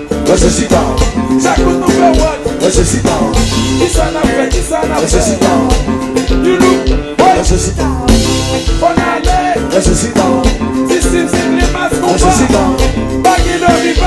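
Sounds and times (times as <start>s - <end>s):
live drum kit playing: 0.0s - 14.0s
song with singing bass and guitar: 0.0s - 14.0s.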